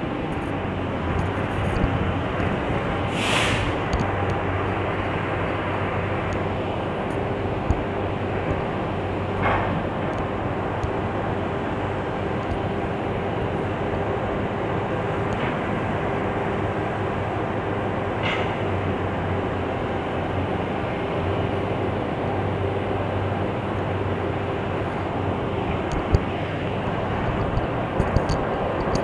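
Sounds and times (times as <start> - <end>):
diesel locomotive engine droning: 0.0 - 29.0.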